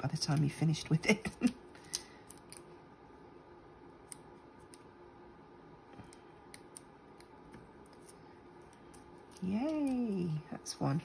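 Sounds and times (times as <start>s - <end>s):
low room hiss: 0.0s - 11.0s.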